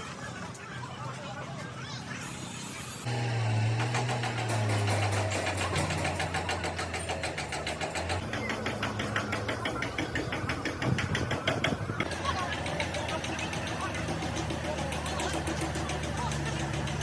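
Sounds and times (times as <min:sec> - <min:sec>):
engine running with rapid ticking: 0:03.0 - 0:17.0.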